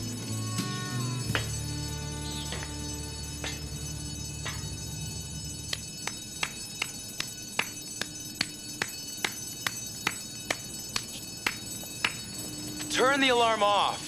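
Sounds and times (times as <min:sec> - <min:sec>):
fire alarm bell ringing: 0:00.0 - 0:14.0.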